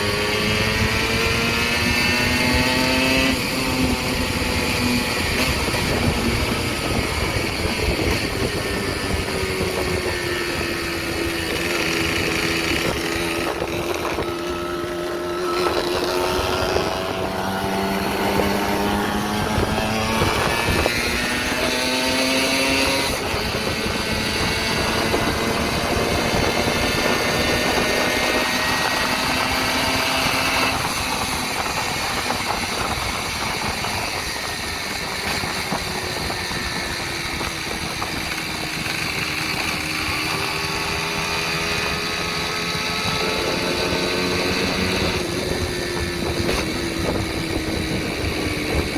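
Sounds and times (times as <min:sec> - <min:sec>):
two-stroke moped engine revving: 0:00.0 - 0:48.9.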